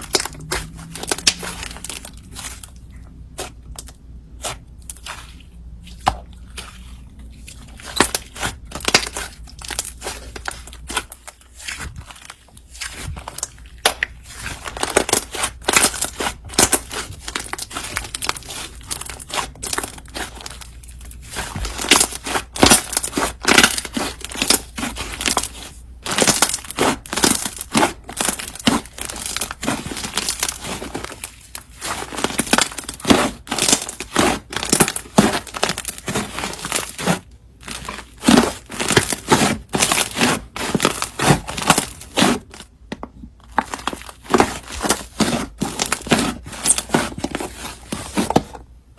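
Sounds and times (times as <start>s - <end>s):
slime crackling and popping: 0.0s - 5.2s, 7.6s - 42.6s.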